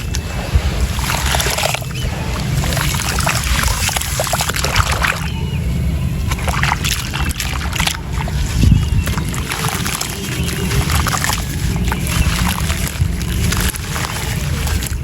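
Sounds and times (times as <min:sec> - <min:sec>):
sand and cement crackling in water: 0:00.0 - 0:15.0
water splashing and sloshing: 0:00.0 - 0:15.0.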